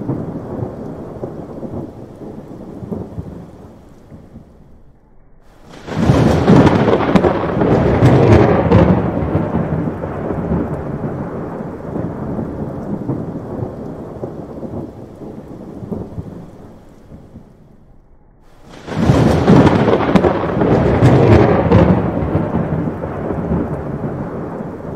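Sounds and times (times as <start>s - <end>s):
thunderclap with crackle and rumble: 0.0s - 24.9s.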